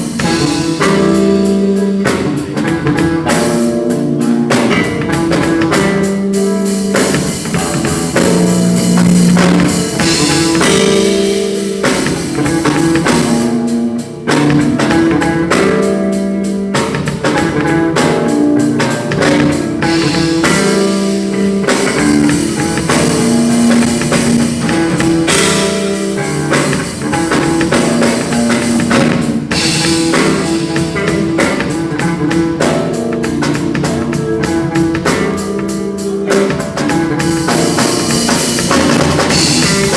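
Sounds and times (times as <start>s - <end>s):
drum kit playing a steady beat: 0.0s - 39.9s
guitar: 0.0s - 39.9s.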